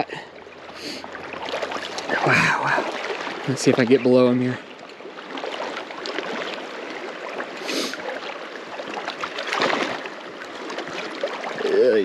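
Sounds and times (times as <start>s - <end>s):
river current rushing and splashing: 0.0s - 12.0s.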